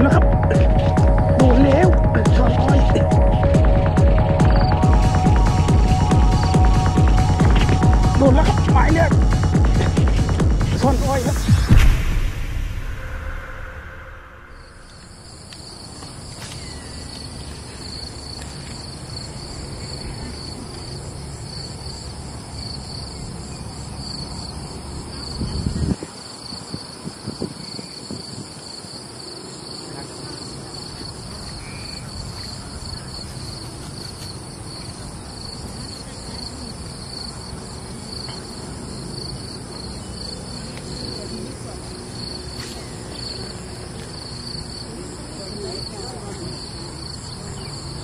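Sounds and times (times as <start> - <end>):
insects chirping: 0.0 - 48.0.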